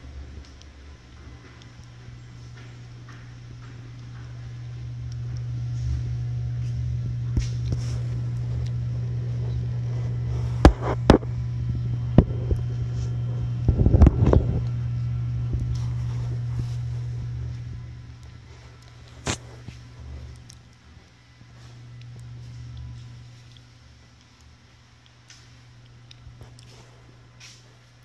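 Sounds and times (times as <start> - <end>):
escalator machinery humming: 0.0 - 28.0.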